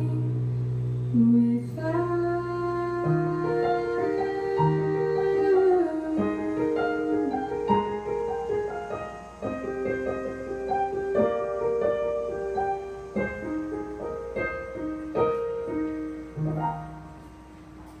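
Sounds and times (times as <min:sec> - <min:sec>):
slow piano chords and melody: 0:00.0 - 0:18.0.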